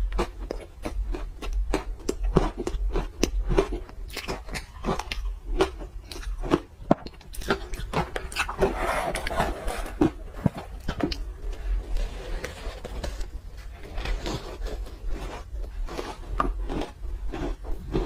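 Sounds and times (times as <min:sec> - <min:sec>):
ice being chewed crunching: 0:00.0 - 0:18.0.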